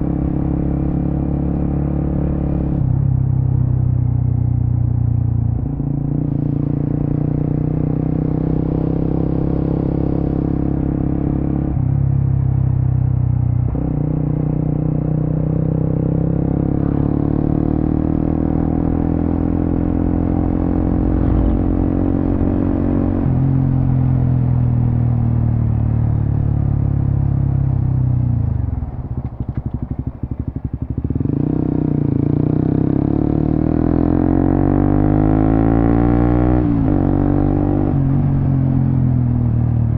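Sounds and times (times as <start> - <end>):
motorcycle engine revving through gears: 5.8 - 12.4, 13.7 - 39.9.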